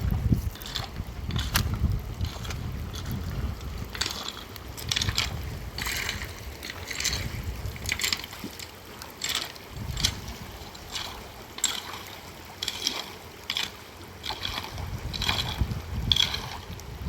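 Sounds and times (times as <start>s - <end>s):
wind buffeting the microphone: 0.0s - 12.4s, 13.9s - 17.0s
floodwater running and splashing: 0.0s - 17.0s.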